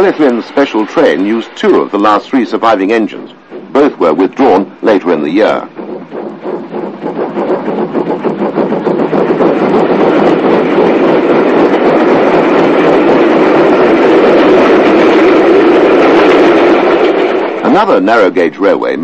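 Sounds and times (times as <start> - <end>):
steam train running: 0.0 - 19.0.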